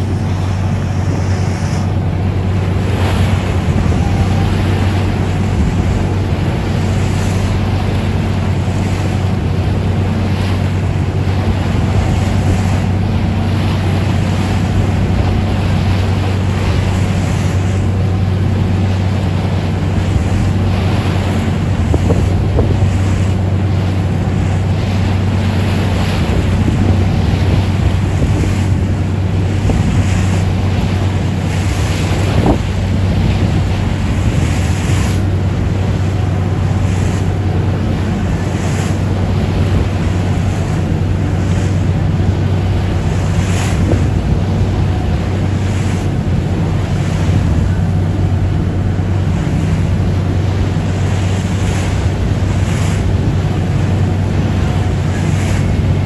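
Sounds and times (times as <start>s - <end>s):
boat engine humming: 0.0s - 56.0s
water rushing past hull: 0.0s - 56.0s
wind gusting on microphone: 0.0s - 56.0s.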